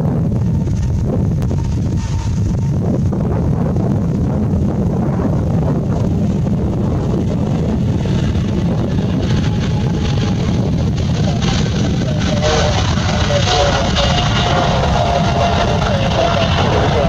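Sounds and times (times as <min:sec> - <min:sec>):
jet engines at takeoff thrust: 0:00.0 - 0:17.0
wind buffeting microphone: 0:00.0 - 0:17.0.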